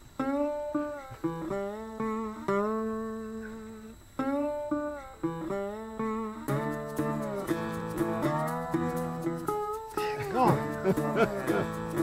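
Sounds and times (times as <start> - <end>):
plucked guitar slow notes: 0.0 - 12.0.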